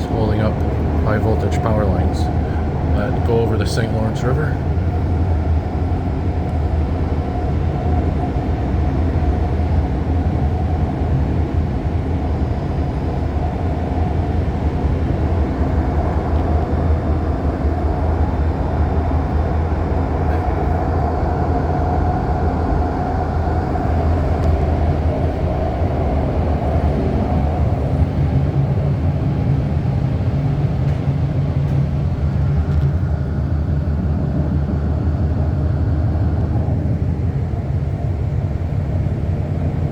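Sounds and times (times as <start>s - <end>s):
faint whine: 0.0s - 39.9s
train motor hum: 0.0s - 39.9s
train wheels rumbling on rail: 0.0s - 39.9s.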